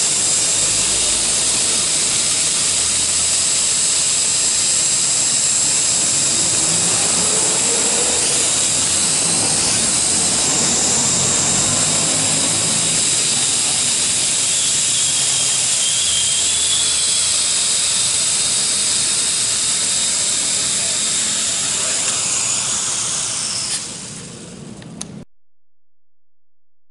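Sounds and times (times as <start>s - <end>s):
toy quadcopter whine: 0.0s - 25.2s.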